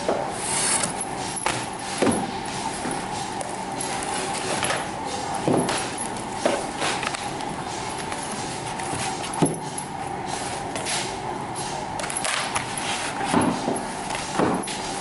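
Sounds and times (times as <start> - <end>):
factory background noise: 0.0 - 15.0.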